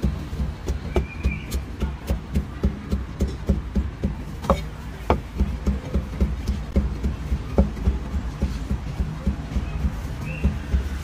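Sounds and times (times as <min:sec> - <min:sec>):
cleaver chopping on wooden block: 0:00.0 - 0:11.0.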